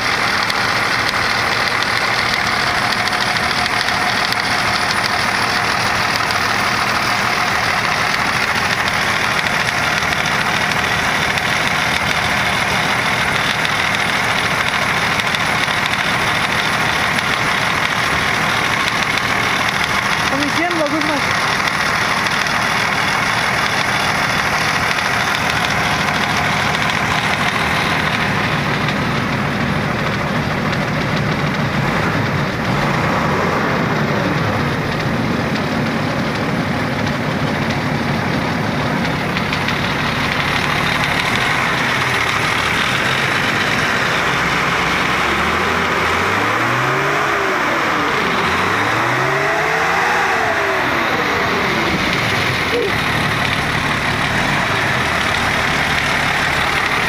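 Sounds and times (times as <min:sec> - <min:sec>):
bus diesel engine idling and revving: 0:00.0 - 0:57.0.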